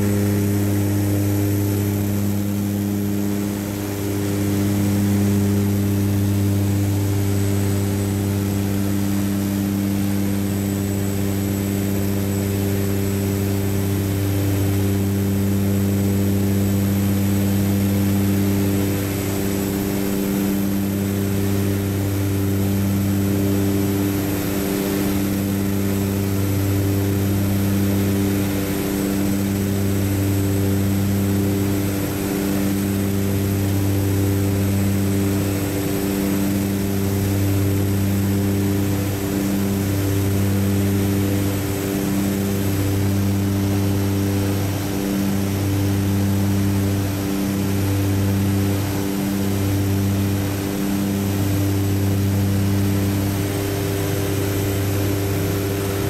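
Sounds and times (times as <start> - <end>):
propeller engines droning: 0.0 - 56.0.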